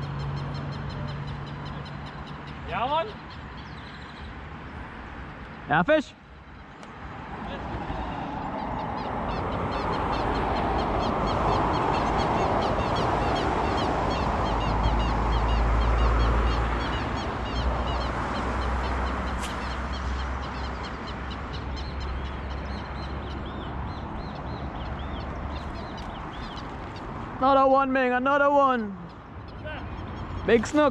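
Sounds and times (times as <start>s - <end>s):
birds chattering: 0.0s - 30.9s
highway traffic rumble: 0.0s - 30.9s.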